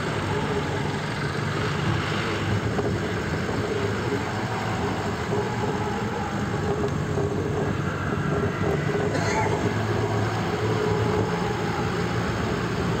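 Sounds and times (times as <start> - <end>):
vehicle running rumble: 0.0 - 13.0.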